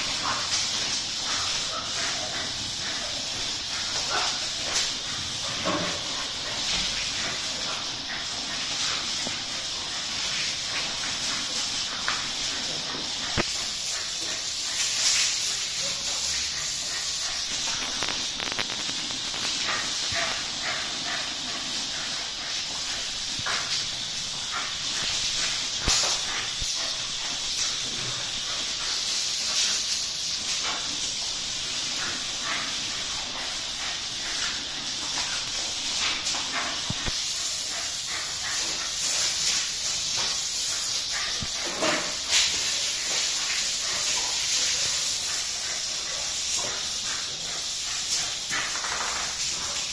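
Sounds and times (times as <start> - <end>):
dogs biting at water stream: 0.0 - 49.9
water spraying from hose: 0.0 - 49.9.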